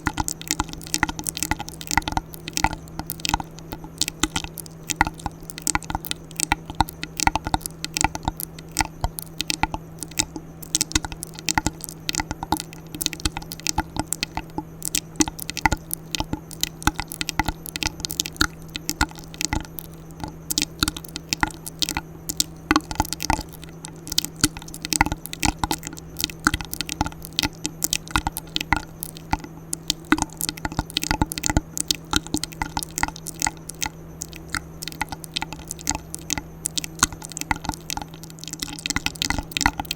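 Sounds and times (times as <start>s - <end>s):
steady low hum: 0.0s - 39.9s
wet mouth clicks and smacks: 0.0s - 39.9s.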